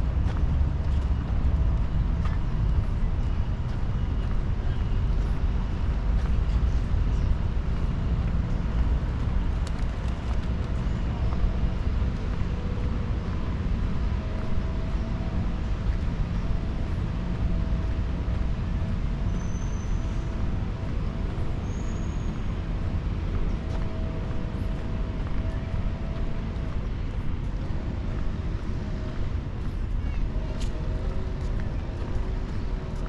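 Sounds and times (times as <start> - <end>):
city road traffic rumble: 0.0 - 33.0.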